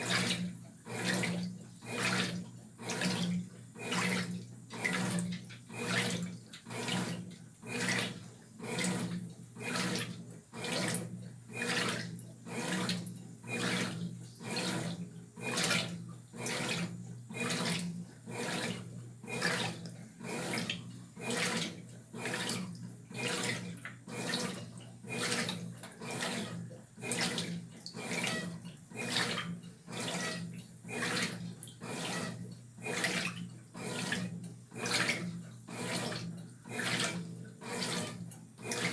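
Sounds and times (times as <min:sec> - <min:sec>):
washing machine motor hum: 0:00.0 - 0:38.9
washing machine water swishing: 0:00.0 - 0:38.9.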